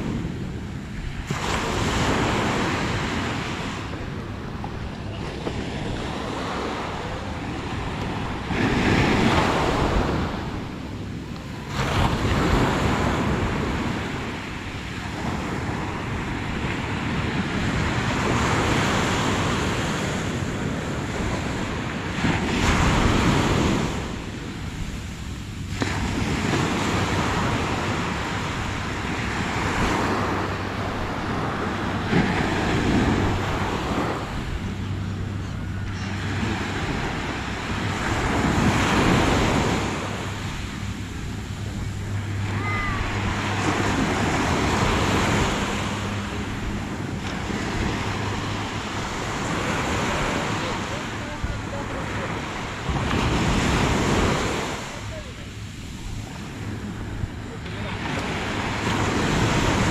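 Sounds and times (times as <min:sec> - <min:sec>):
small waves breaking on sand: 0:00.0 - 0:59.9.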